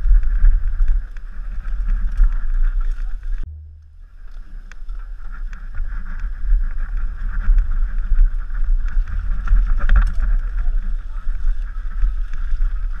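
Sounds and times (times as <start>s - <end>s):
mountain bike rattling over rocks: 0.0s - 3.4s, 4.4s - 13.0s
wind buffeting microphone: 0.0s - 13.0s.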